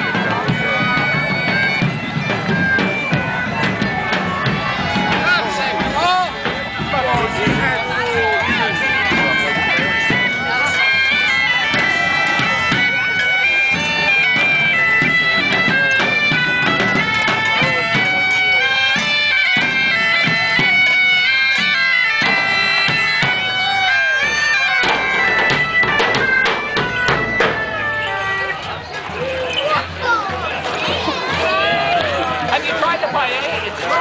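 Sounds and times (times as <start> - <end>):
bagpipes playing melody: 0.0 - 34.0.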